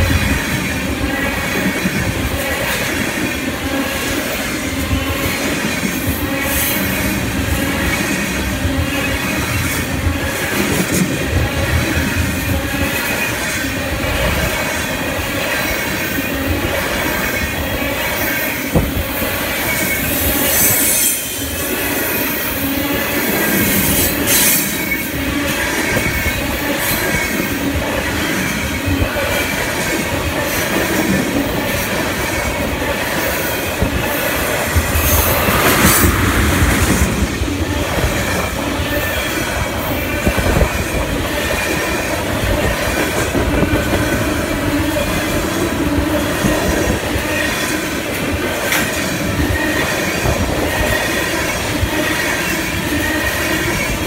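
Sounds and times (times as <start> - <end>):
rumble of steel wheels on rail: 0.0 - 54.0.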